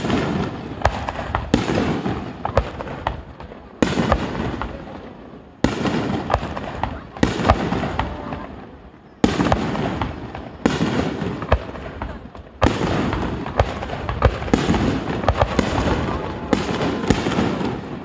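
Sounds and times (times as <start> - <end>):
fireworks booming: 0.0 - 18.0
fireworks cracks: 0.0 - 18.0.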